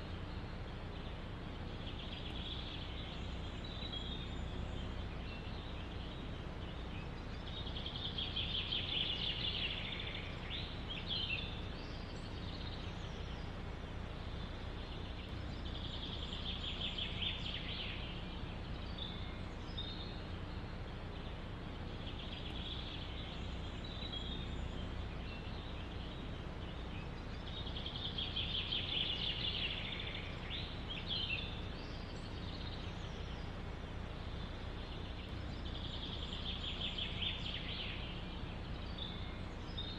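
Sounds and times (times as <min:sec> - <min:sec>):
low wind rumble: 0:00.0 - 0:39.9
songbird trilling: 0:00.0 - 0:39.9.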